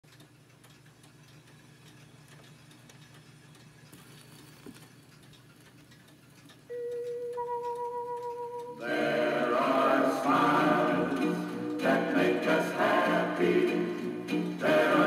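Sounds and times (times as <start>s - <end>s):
record surface hiss and crackle: 0.1s - 15.0s.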